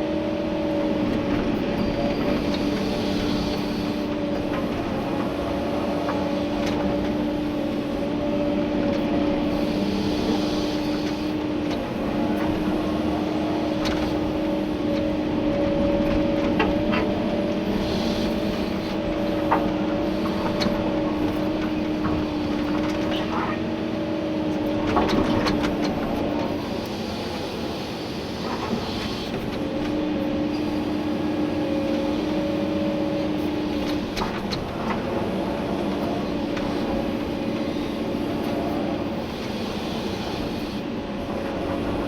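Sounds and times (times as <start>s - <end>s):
excavator engine and hydraulics hum: 0.0s - 42.0s.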